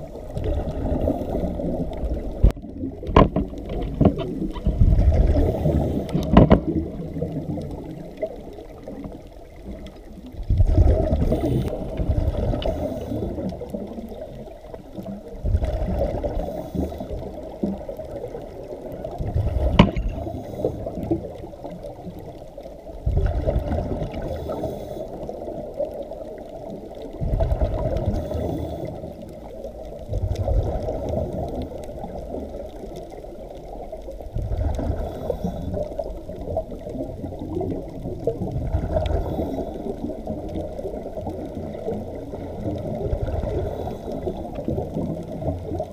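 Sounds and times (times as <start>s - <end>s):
underwater bubbling and gurgling: 0.0s - 45.9s.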